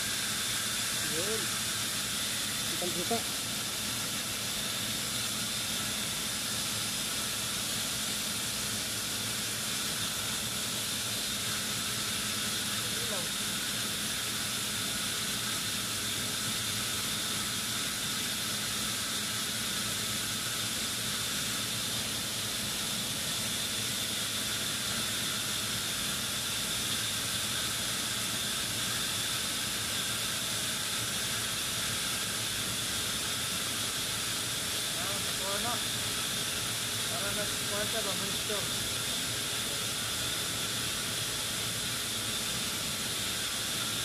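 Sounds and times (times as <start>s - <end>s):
air conditioning hiss: 0.0s - 44.0s.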